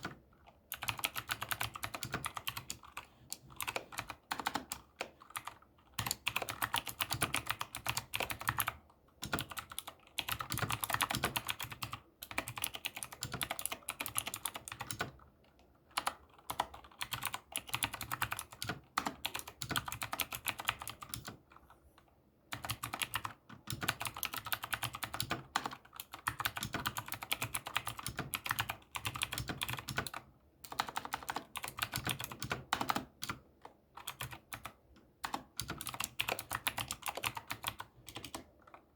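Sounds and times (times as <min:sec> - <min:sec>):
clicky keyboard typing: 0:00.0 - 0:21.6, 0:22.5 - 0:38.9.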